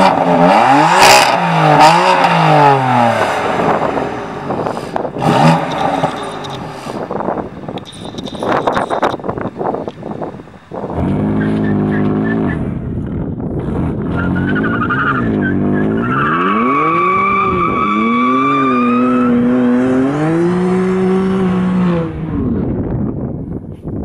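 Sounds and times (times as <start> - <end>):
car engine revving: 0.0 - 22.7.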